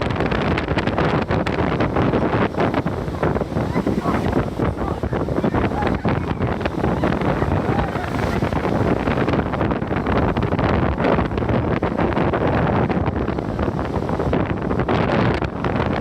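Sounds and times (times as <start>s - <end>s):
rough sea waves breaking: 0.0s - 16.0s
wind buffeting microphone: 0.0s - 16.0s.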